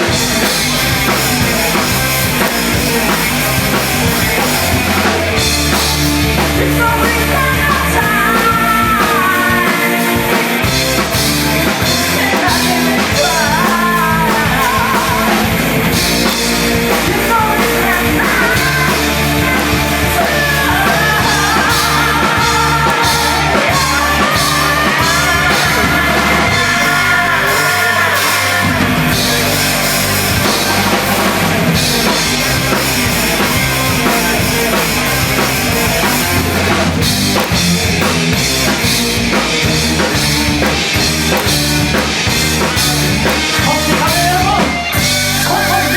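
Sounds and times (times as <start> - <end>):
loud live rock band: 0.0 - 45.9
vocals singing: 0.0 - 45.9.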